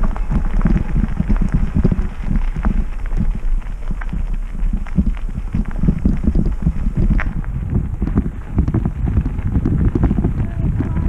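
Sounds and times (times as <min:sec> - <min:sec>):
bicycle rattling over bumpy ground: 0:00.0 - 0:11.0
wind rumbling on microphone: 0:00.0 - 0:11.0.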